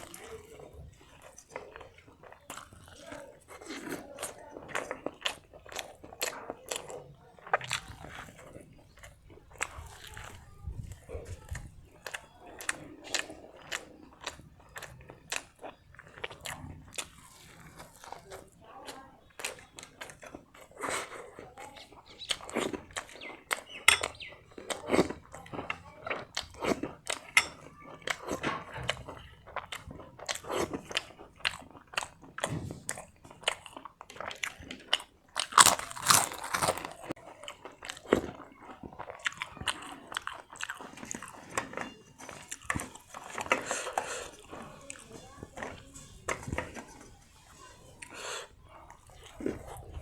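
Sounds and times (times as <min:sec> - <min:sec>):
person chewing crunchy food: 0:00.0 - 0:47.0.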